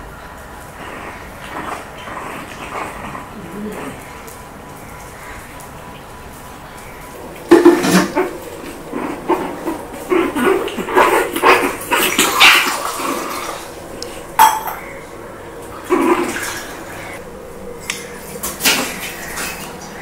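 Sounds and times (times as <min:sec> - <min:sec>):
dogs playing and mouthing: 0:00.3 - 0:15.0, 0:15.6 - 0:20.0.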